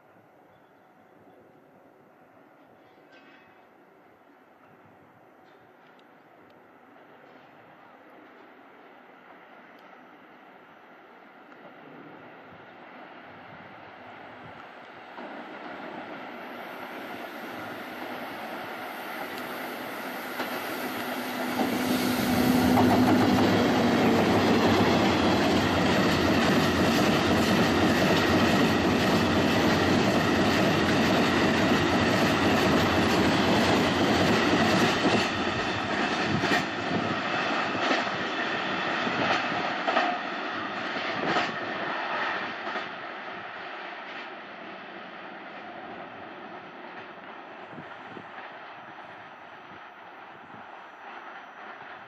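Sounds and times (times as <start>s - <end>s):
freight train rumbling past: 6.7s - 52.0s.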